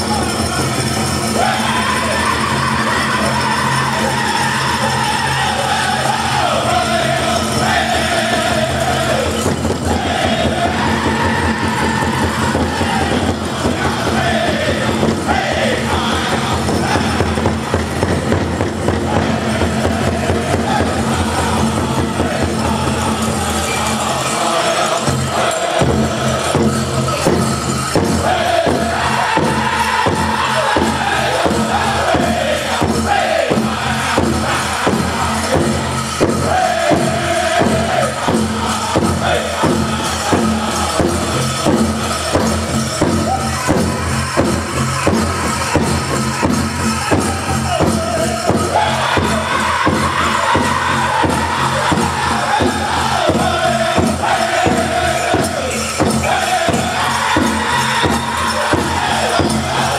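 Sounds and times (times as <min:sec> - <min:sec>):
large drum struck steadily: 0:00.0 - 0:24.3, 0:25.1 - 0:59.9
group singing high long notes: 0:00.0 - 0:59.9.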